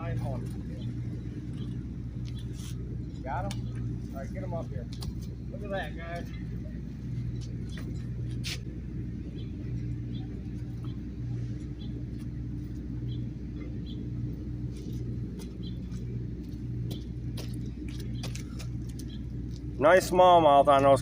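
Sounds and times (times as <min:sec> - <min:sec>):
pulsing mechanical hum: 0:00.0 - 0:21.0.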